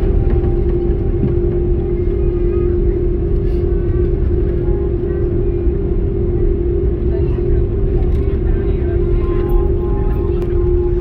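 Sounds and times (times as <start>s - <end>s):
airframe rumble on taxiway: 0.0s - 11.0s
jet engines droning: 0.0s - 11.0s.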